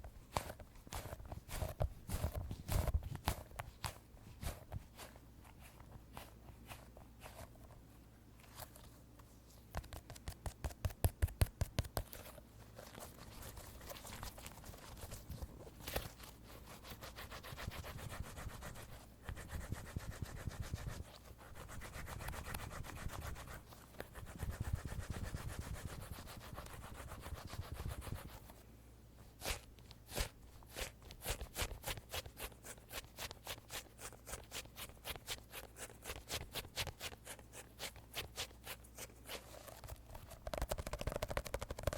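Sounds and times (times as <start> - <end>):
rubbing and scratching on toy: 0.0 - 41.9.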